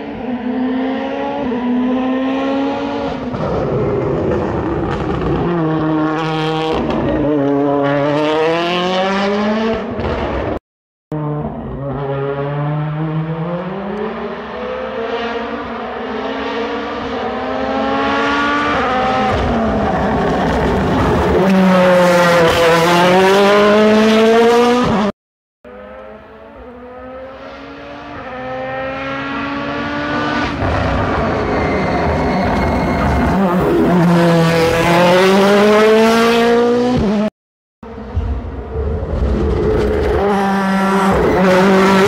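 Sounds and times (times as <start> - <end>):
rally car engine revving: 0.0 - 25.1, 25.7 - 42.0.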